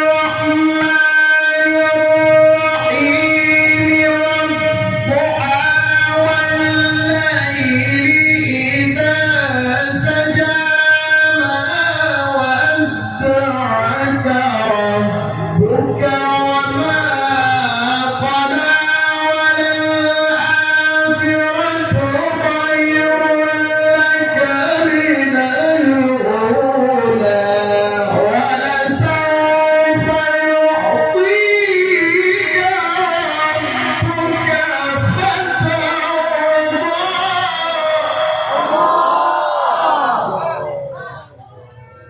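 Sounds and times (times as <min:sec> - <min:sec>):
man reciting melodically: 0:00.0 - 0:41.1.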